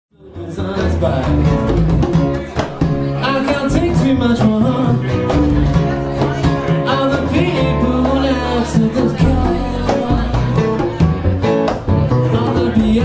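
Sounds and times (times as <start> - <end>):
man singing: 0.1 - 2.1, 3.0 - 11.2, 12.1 - 13.0
live band playing: 0.2 - 13.0.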